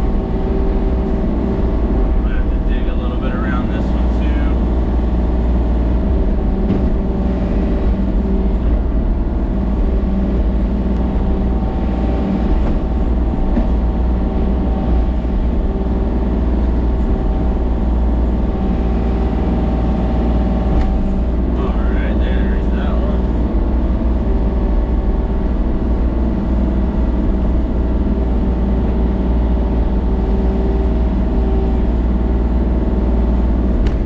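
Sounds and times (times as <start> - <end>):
machine engine droning: 0.0 - 34.0.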